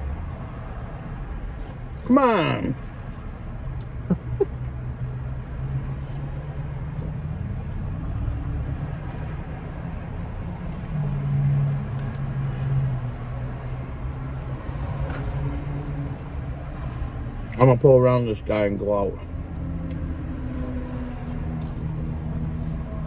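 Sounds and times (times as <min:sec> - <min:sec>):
car engine hum from cabin: 0:00.0 - 0:23.0.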